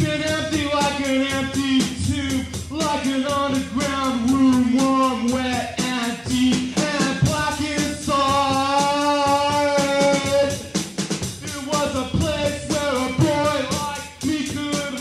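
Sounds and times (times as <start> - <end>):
melodic music over steady beat: 0.0 - 15.0.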